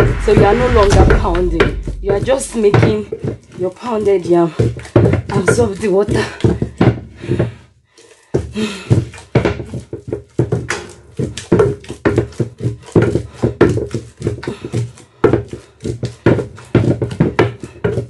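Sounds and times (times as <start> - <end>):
pestle mashing in wooden mortar: 1.7 - 18.0.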